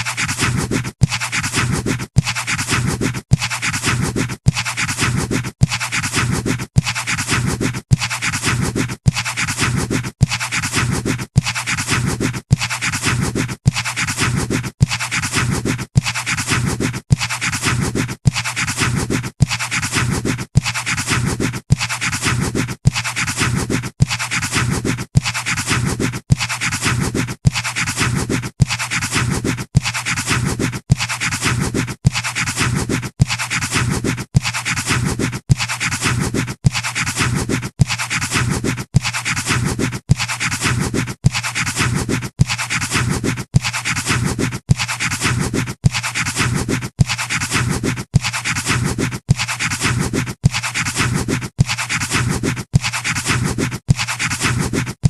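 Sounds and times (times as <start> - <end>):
pencil scratching on paper: 0.0 - 55.0.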